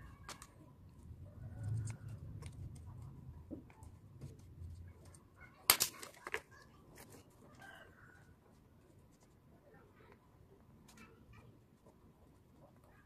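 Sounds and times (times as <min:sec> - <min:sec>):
faint handling noise: 0:00.0 - 0:13.0.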